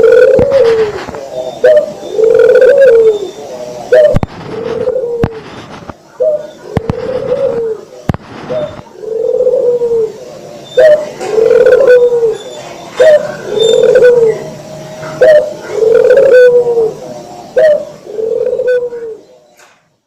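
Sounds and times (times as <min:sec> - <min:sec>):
dove cooing: 0:00.0 - 0:19.4.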